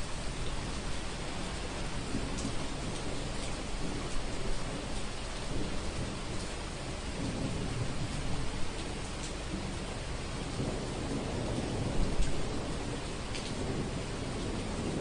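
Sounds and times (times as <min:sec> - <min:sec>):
low rolling thunder: 0:00.0 - 0:15.0
steady rain: 0:00.0 - 0:15.0.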